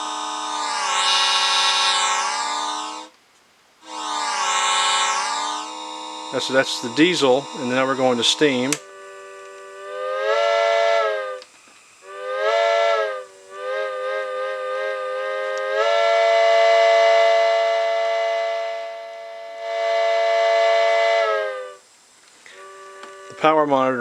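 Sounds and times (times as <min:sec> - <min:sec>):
electronic train whistle: 0:00.0 - 0:03.1, 0:03.8 - 0:23.7.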